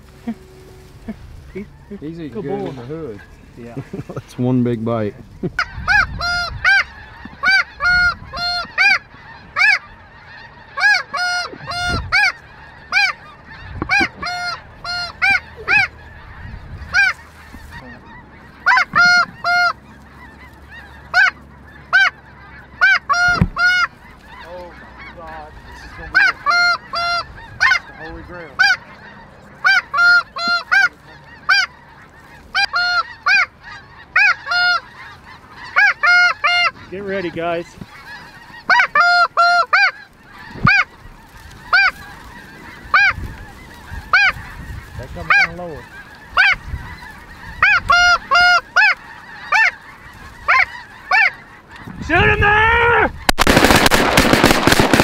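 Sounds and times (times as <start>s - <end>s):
snow geese honking: 0.0s - 55.0s.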